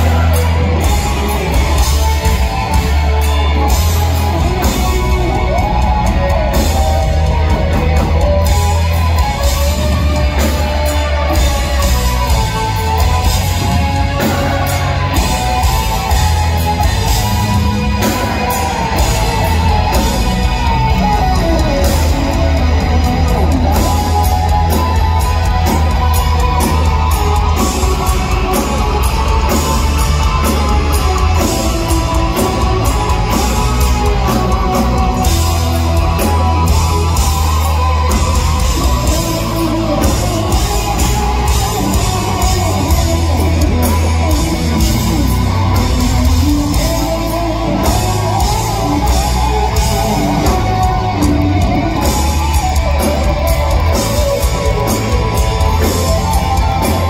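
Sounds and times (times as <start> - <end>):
bass: 0.0 - 57.0
drums: 0.0 - 57.0
electric guitar melody: 0.0 - 57.0.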